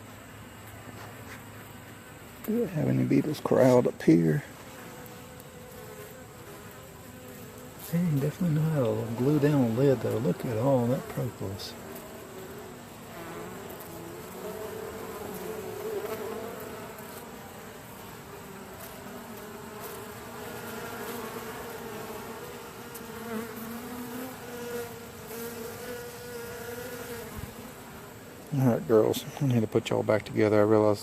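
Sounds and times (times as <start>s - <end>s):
honey bees buzzing: 0.0s - 31.0s.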